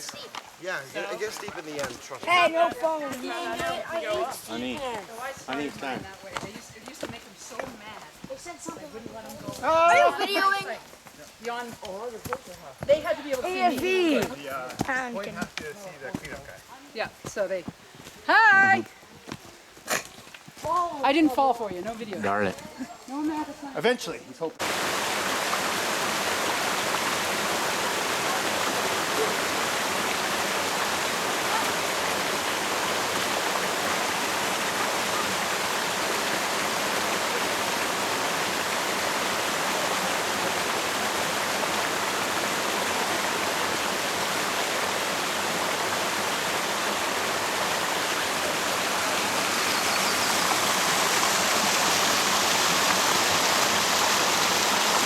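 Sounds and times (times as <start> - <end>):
stream water rushing: 0.0 - 15.3, 24.5 - 55.0.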